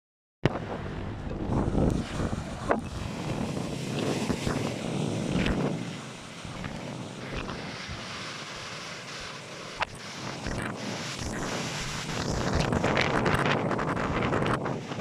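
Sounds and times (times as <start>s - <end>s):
rushing sea surf: 0.4s - 15.0s
wind buffeting microphone: 0.4s - 15.0s.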